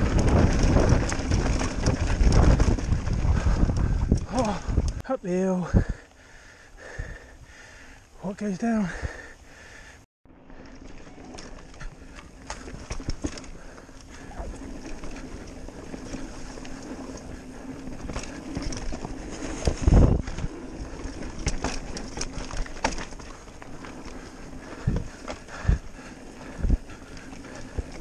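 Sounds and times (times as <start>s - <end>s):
bike chain and frame rattling: 0.0s - 5.0s, 10.5s - 28.0s
bike tyres rumbling over dirt: 0.0s - 5.0s, 10.3s - 28.0s.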